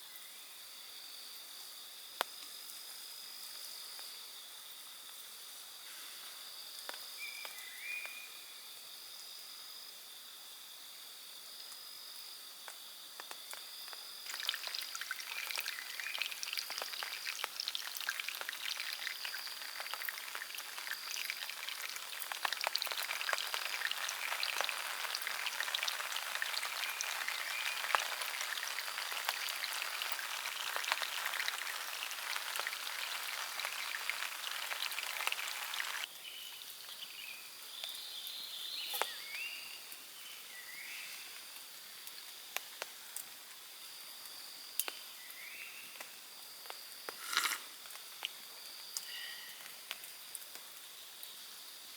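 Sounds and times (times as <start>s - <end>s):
rain pattering on leaves and tarp: 4.9s - 8.2s, 12.6s - 51.9s.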